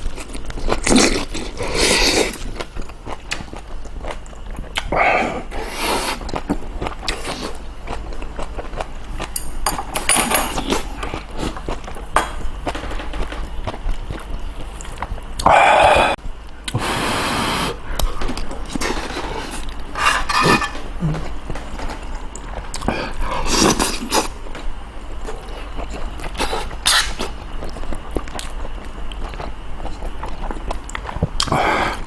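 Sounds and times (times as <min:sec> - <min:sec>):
chewing and wet mouth sounds: 0:00.0 - 0:16.8, 0:17.8 - 0:32.0.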